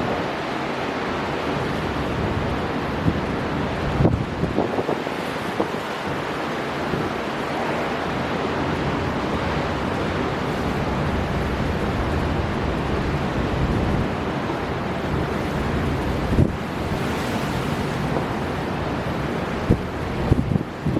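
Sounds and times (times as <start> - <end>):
waves crashing: 0.0 - 20.9
strong wind rushing: 1.4 - 20.9.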